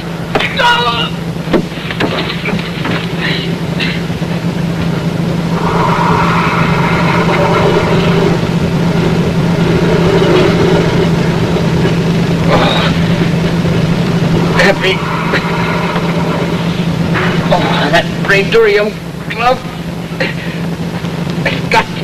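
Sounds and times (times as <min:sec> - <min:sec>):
low hum: 0:01.3 - 0:20.1.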